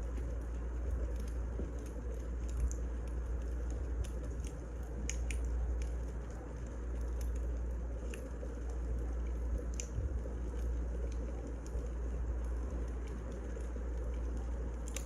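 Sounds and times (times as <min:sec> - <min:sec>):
fire low rumble: 0:00.0 - 0:15.0
firewood crackling and popping: 0:00.0 - 0:15.0.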